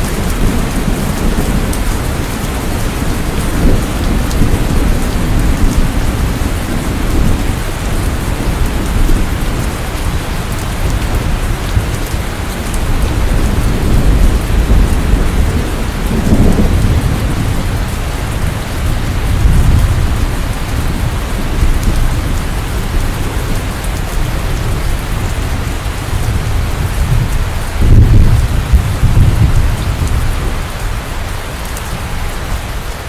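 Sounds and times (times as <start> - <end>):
heavy rain falling: 0.0 - 33.0
low rolling thunder: 0.0 - 33.0.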